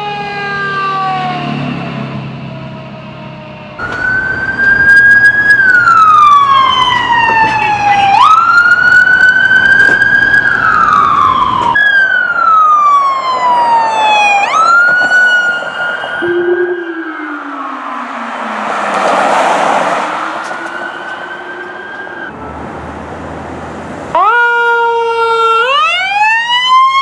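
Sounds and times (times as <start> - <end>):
electronic siren wailing: 0.0 - 19.1, 19.9 - 22.6, 24.2 - 27.0.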